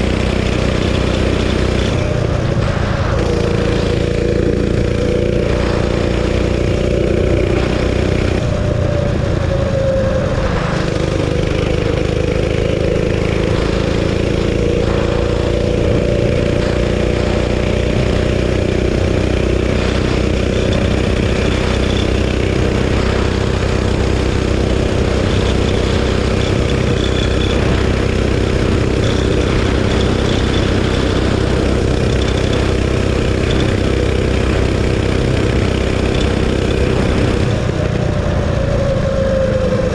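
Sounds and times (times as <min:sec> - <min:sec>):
mini bike engine at high revs: 0:00.0 - 0:09.6, 0:10.2 - 0:38.6.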